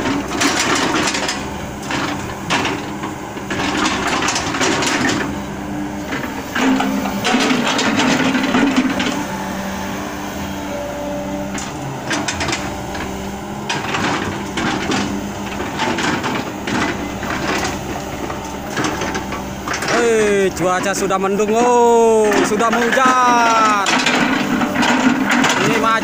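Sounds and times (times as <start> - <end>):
hydraulic excavator running: 0.0 - 26.0.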